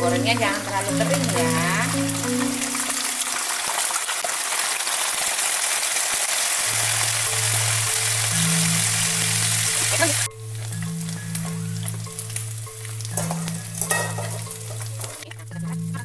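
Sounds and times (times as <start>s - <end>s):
fish frying in hot oil: 0.0s - 16.0s.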